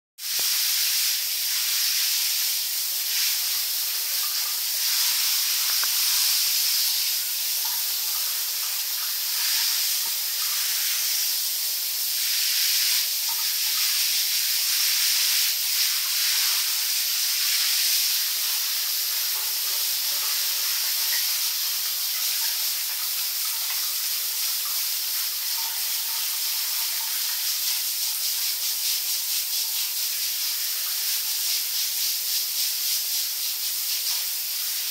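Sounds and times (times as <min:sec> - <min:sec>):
shower spray hissing: 0:00.2 - 0:34.9.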